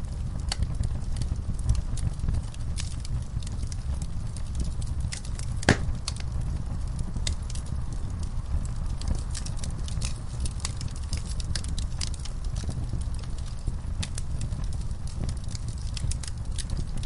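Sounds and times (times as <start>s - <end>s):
crackles and pops of burning wood: 0.0s - 17.0s
rumble of flames: 0.0s - 17.0s.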